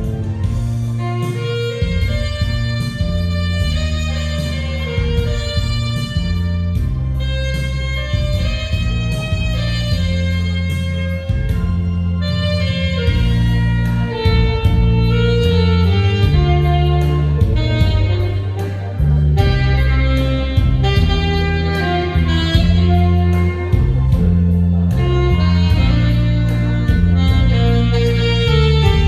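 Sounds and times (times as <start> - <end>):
backing track with bass line: 0.0 - 29.0
saxophone melody: 0.0 - 29.0.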